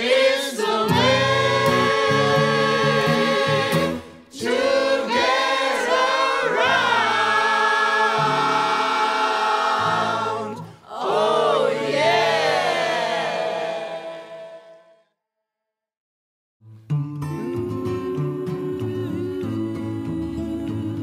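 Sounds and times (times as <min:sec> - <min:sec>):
choir singing: 0:00.0 - 0:15.0, 0:17.4 - 0:21.0.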